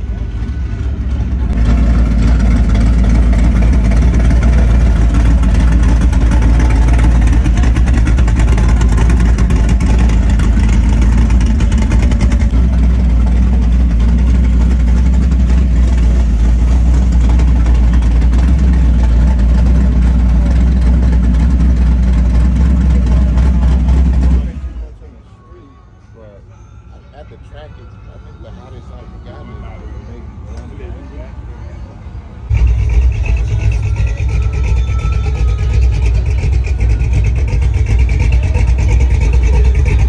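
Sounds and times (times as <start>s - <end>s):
car engine idling loudly: 0.0s - 25.1s, 32.5s - 40.0s.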